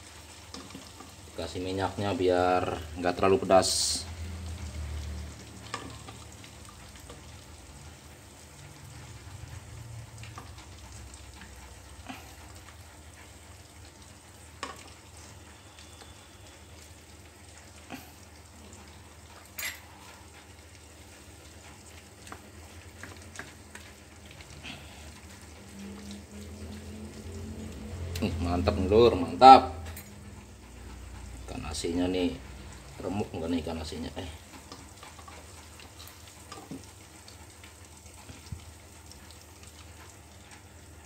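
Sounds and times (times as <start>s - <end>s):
fish sizzling in oil: 0.0s - 41.0s.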